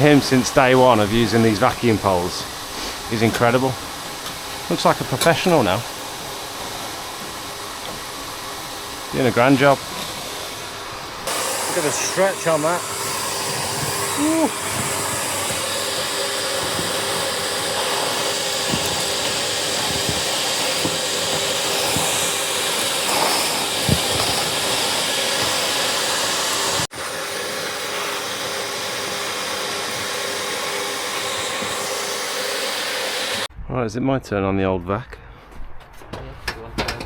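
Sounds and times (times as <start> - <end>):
vacuum rushing air: 0.0 - 33.6.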